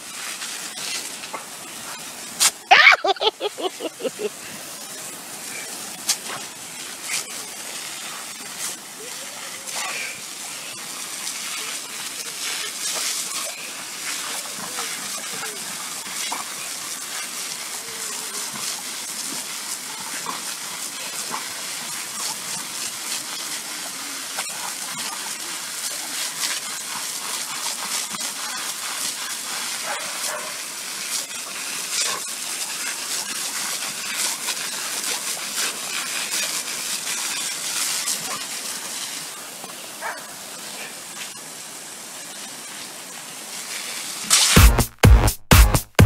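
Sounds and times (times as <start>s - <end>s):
garden hose spray hissing: 0.0s - 45.0s
water spattering: 0.0s - 45.0s.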